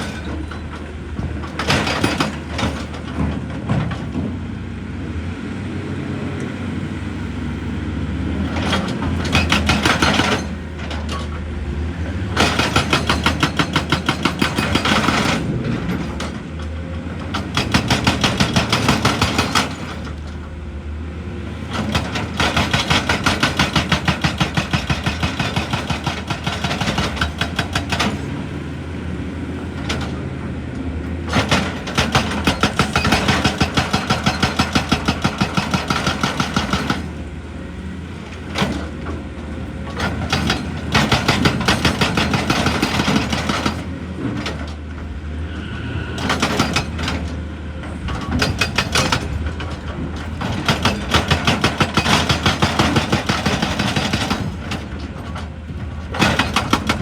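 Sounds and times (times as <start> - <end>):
hydraulic rock breaker hammering: 0.0 - 4.3, 8.5 - 11.4, 12.2 - 20.4, 21.7 - 28.4, 31.2 - 44.8, 46.2 - 57.0
diesel engine running: 0.0 - 57.0.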